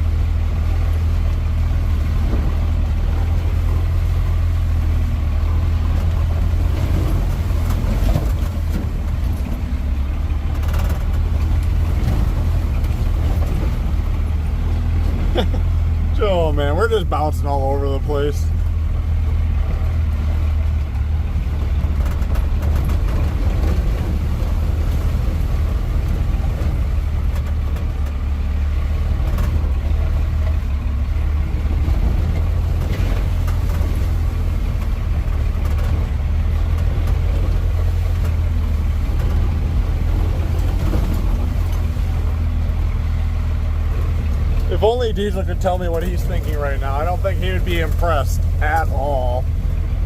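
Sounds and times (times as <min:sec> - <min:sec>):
truck knocking and rattling: 0:00.0 - 0:16.2, 0:18.4 - 0:50.0
truck engine rumble: 0:00.0 - 0:50.0.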